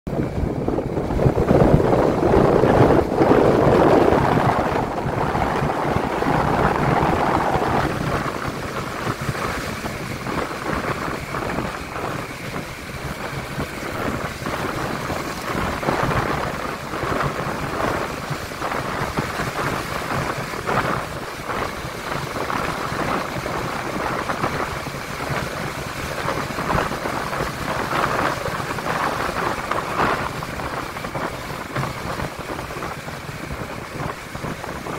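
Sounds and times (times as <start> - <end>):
motorcycle engine and road noise: 0.1 - 34.9
wind rushing over microphone: 0.1 - 34.9.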